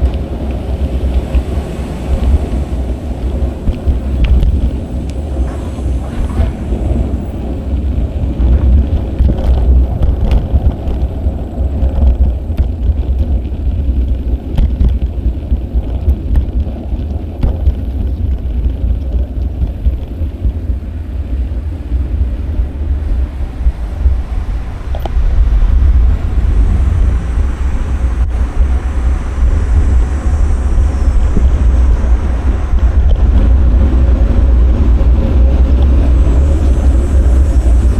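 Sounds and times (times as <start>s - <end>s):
street traffic: 0.0s - 37.9s
wind buffeting microphone: 0.0s - 37.9s.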